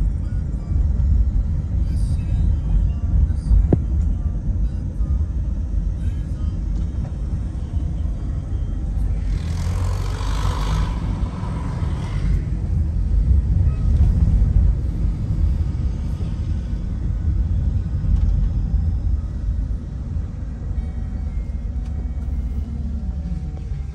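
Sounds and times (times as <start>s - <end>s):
car road and engine rumble: 0.0s - 23.9s.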